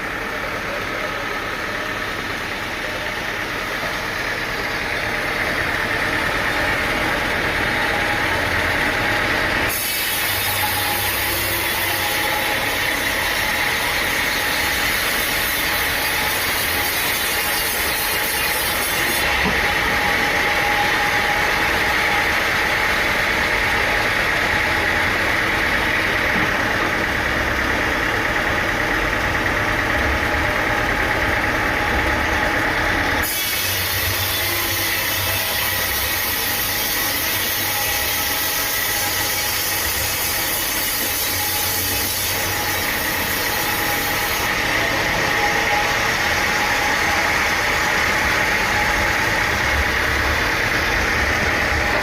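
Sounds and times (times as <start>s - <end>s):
sawmill machinery droning: 0.0s - 52.0s.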